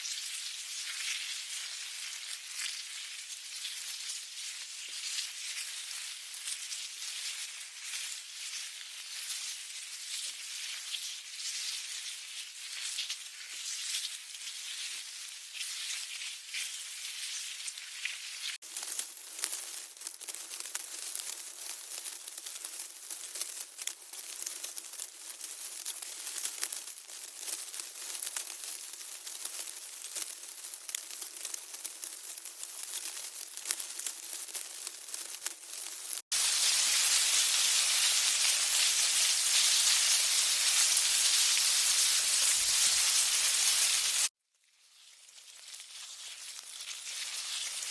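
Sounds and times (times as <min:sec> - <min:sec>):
ants crackling rustle: 0:00.0 - 0:44.4, 0:45.0 - 0:47.9.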